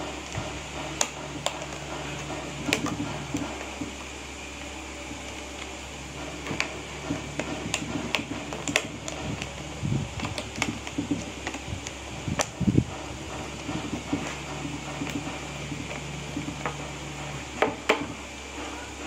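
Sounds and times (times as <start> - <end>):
steady hum: 0.0 - 19.0
objects clicking and tapping: 0.2 - 18.2.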